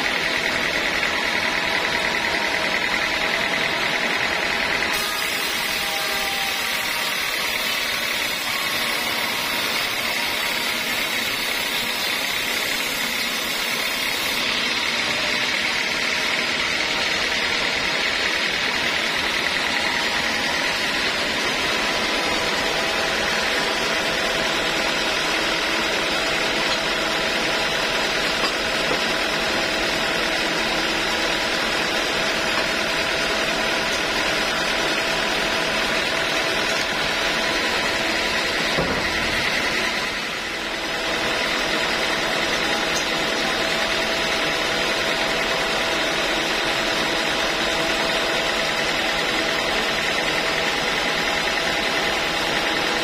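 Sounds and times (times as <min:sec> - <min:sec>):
band saw running: 0:00.0 - 0:53.0.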